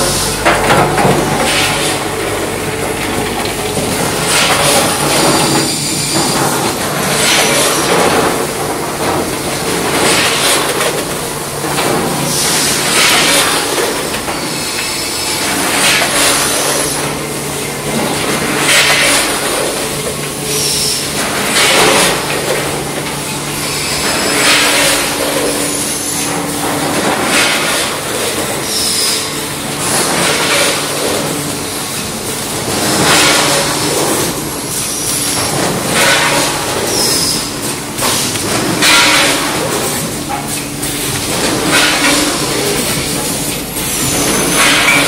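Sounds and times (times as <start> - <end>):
packaging machine noisy burst: 0.0 - 45.0
steady machine hum: 0.0 - 45.0.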